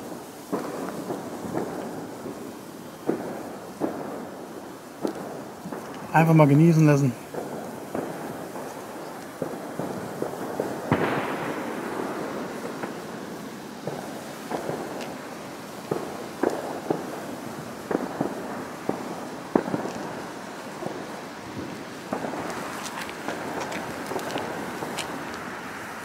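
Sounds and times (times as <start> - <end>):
sparkler crackling pops: 0.0 - 26.0
sparklers hissing: 0.0 - 26.0.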